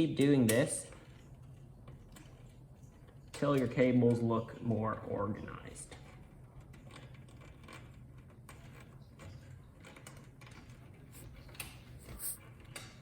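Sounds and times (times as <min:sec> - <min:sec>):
cables clicking and rustling: 0:00.0 - 0:13.0.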